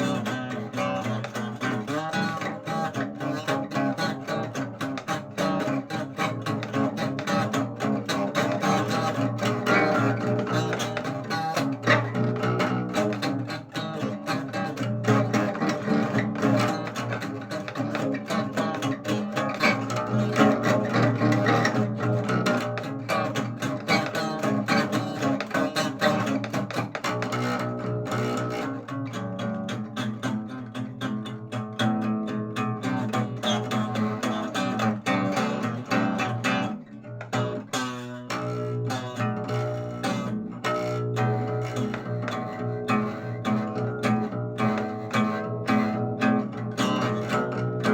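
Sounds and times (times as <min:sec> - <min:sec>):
plucked string music: 0:00.0 - 0:47.9.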